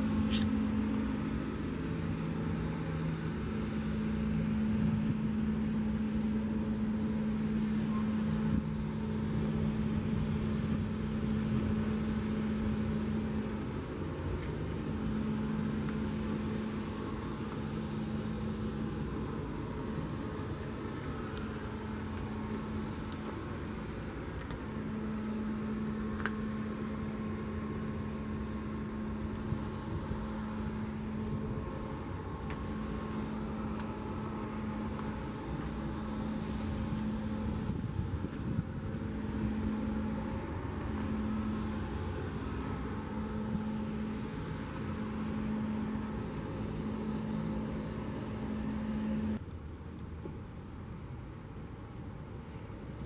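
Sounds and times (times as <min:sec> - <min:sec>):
low hum: 0:00.0 - 0:51.1
vehicle rumble: 0:00.0 - 0:53.0.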